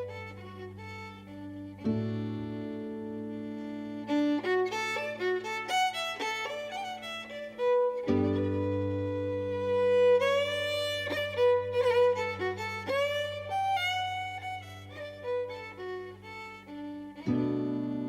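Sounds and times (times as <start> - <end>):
fiddle melody: 0.0 - 18.0.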